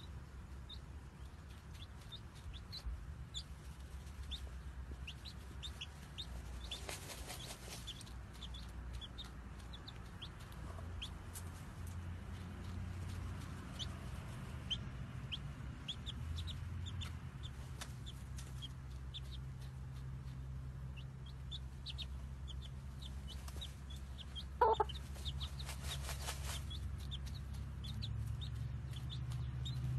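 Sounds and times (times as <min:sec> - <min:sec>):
chicks peeping: 0:00.0 - 0:29.9
hen clucking: 0:00.0 - 0:29.9.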